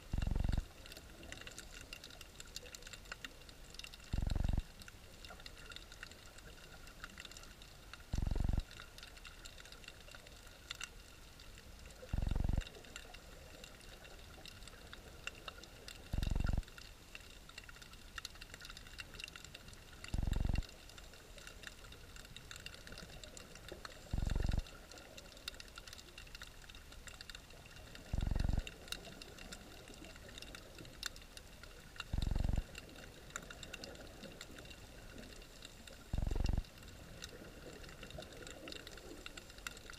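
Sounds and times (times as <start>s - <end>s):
faint steady tones: 0.0s - 39.9s
underwater crackle of clicks: 0.0s - 39.9s.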